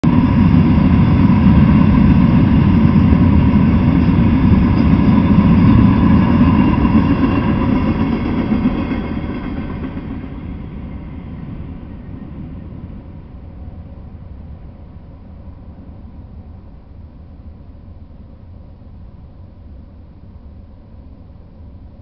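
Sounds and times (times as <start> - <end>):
train wheels rumbling on rail: 0.0 - 18.2.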